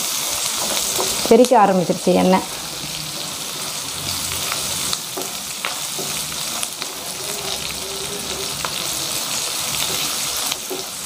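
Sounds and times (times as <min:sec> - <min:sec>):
vegetables sizzling in oil: 0:00.0 - 0:11.0
wooden spatula stirring: 0:00.2 - 0:01.7, 0:02.4 - 0:11.0.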